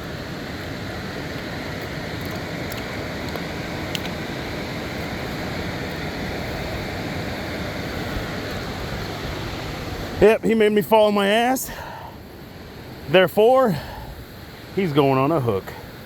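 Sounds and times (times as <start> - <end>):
water rushing over spillway: 0.0 - 16.0.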